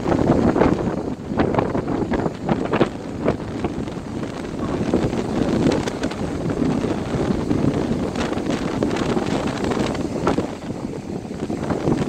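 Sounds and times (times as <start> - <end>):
surf breaking on shore: 0.0 - 12.0
wind blowing across microphone: 0.0 - 12.0.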